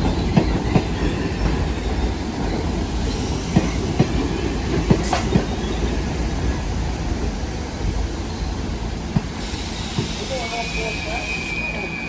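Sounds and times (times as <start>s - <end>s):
train cars rumbling past: 0.0s - 12.0s.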